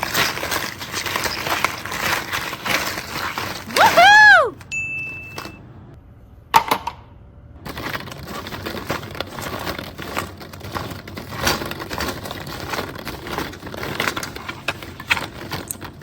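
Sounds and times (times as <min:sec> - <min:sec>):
small hard objects rattling: 0:00.0 - 0:04.6, 0:07.7 - 0:16.0.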